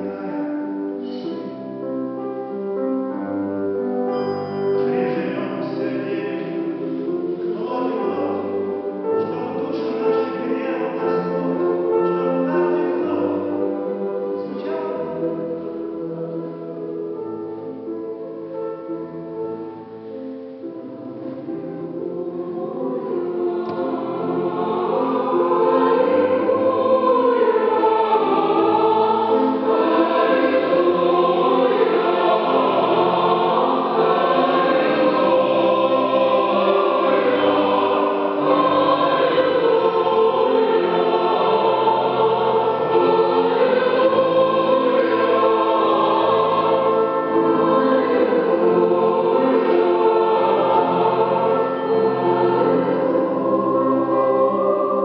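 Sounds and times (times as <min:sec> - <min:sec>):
choir singing: 0:00.0 - 0:19.9, 0:20.7 - 0:55.0.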